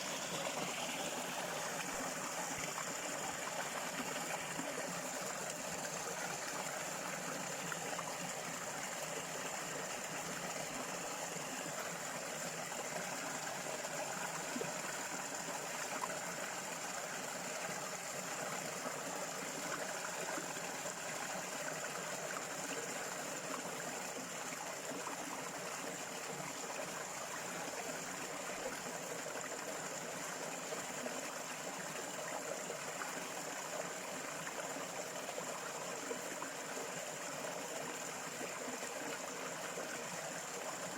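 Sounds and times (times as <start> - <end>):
stream of water trickling: 0.0 - 40.9.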